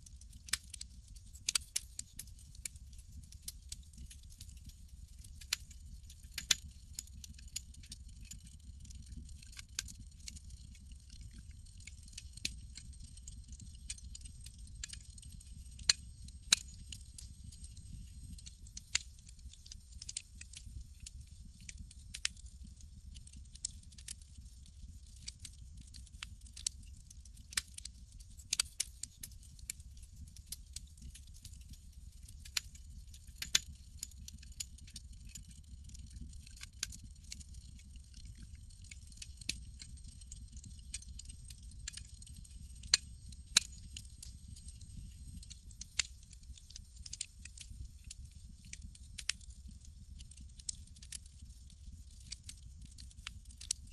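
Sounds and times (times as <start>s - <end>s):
campfire crackling and popping: 0.2s - 53.8s.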